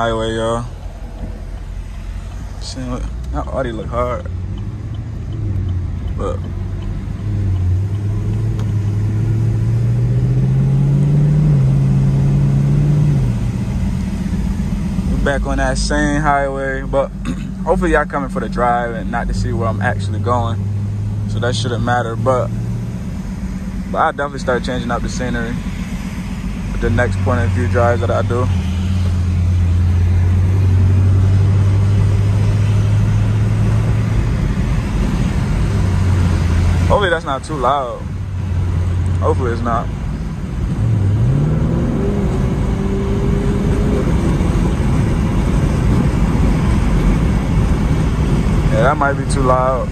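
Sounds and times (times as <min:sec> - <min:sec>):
car engine accelerating: 0:00.0 - 0:49.9
road rumble: 0:00.0 - 0:49.9.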